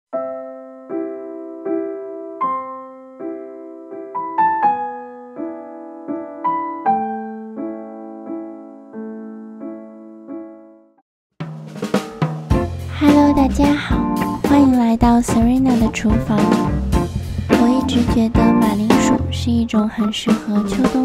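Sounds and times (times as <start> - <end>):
piano chords: 0.1 - 11.0, 12.5 - 20.9.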